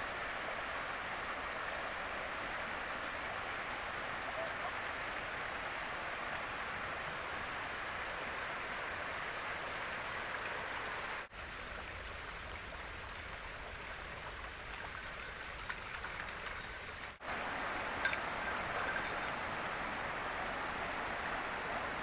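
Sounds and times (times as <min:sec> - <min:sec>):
creek flowing over stones: 0:00.0 - 0:22.0.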